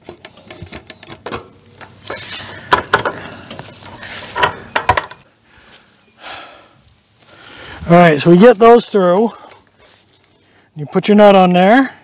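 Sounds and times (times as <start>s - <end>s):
boards and wire rustling on pine needles: 0.0s - 11.8s.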